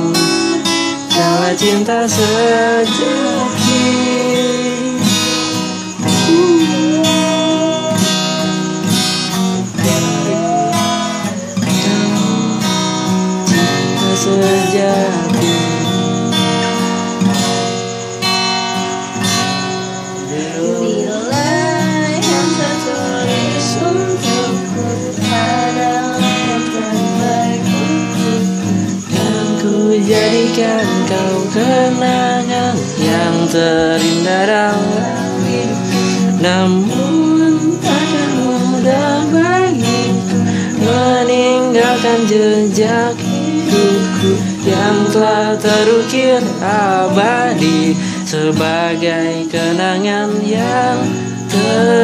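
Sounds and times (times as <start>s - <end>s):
person singing or humming: 0.0s - 8.9s, 9.6s - 12.8s, 13.4s - 16.1s, 20.2s - 52.0s
acoustic guitar strummed chords: 0.0s - 52.0s.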